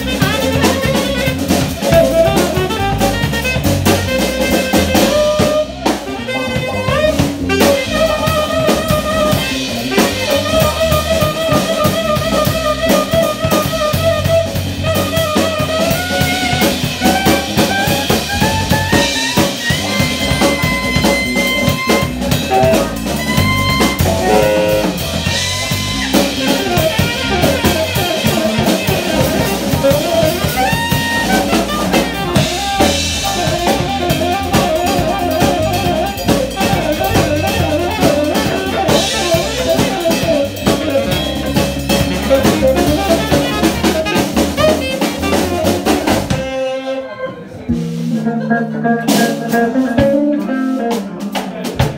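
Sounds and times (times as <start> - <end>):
saxophone wavering notes: 0.0 - 50.6
drum kit: 0.0 - 51.9
electric bass: 0.0 - 51.9.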